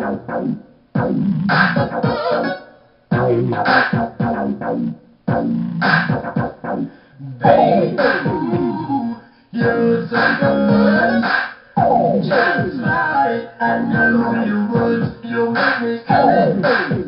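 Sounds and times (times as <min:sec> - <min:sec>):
chopped music phrases: 0:00.0 - 0:17.0.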